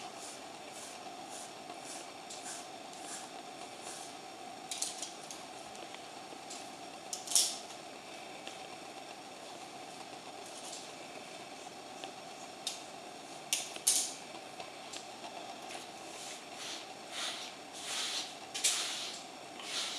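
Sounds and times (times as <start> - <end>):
steady mid-pitched hum: 0.0 - 19.9.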